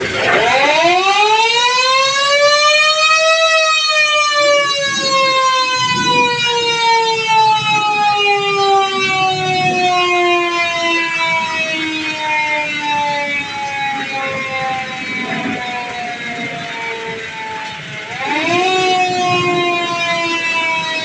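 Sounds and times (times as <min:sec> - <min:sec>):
fire truck siren wailing: 0:00.0 - 0:21.0.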